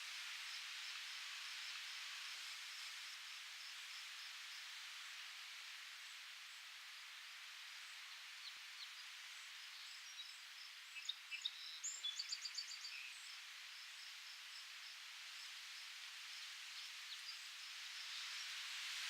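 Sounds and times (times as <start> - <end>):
leaves rustling in wind: 0.0 - 11.3, 11.9 - 19.0.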